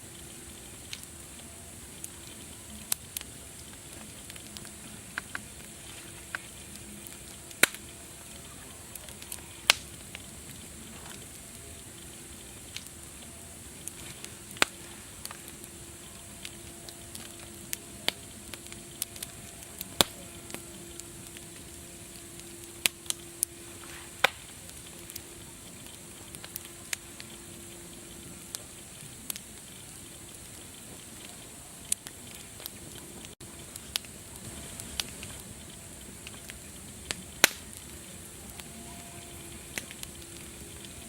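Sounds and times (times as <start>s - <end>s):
faint low hum: 0.0s - 41.0s
wood fire crackling: 0.0s - 41.0s.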